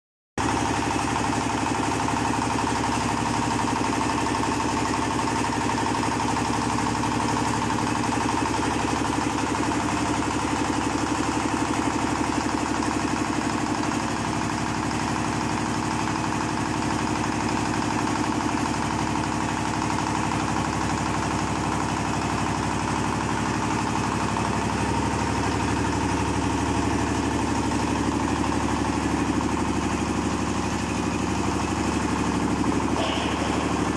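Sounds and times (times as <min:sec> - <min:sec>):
oil expeller machine droning: 0:00.4 - 0:33.9.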